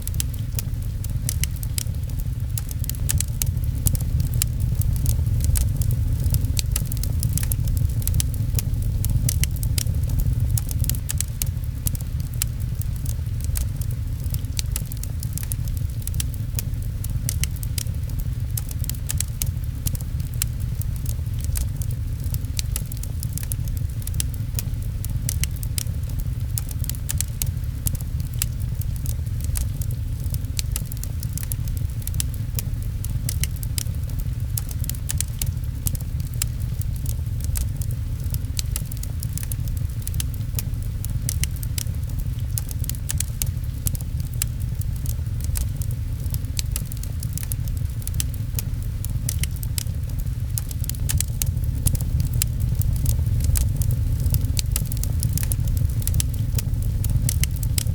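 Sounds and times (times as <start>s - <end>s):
gentle rain on a window: 0.0s - 57.9s
steady deep rumble: 0.0s - 57.9s
wood fire crackling and popping: 0.0s - 57.9s.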